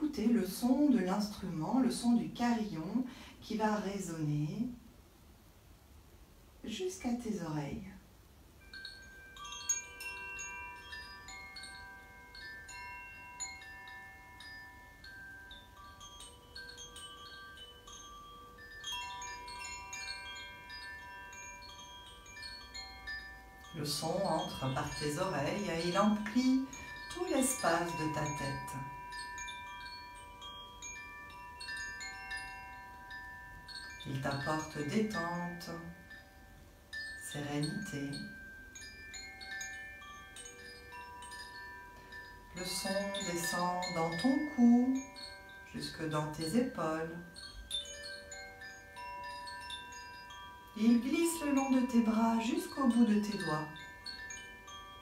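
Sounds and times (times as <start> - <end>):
bamboo chime ringing: 8.6 - 55.0.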